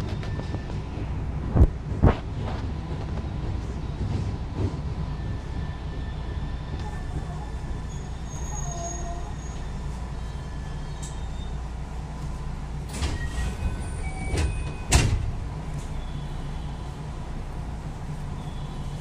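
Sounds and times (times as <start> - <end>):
train rumble with faint hum: 0.0 - 19.0.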